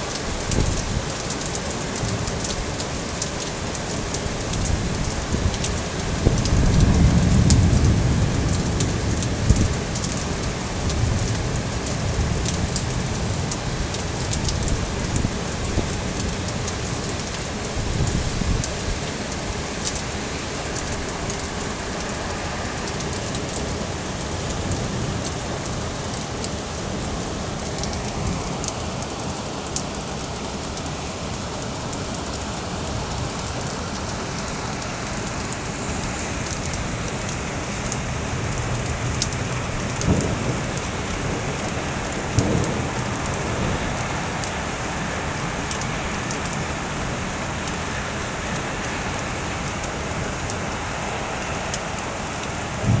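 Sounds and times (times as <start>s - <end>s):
heavy rain falling: 0.0s - 53.0s
raindrops ticking on surfaces: 0.0s - 53.0s.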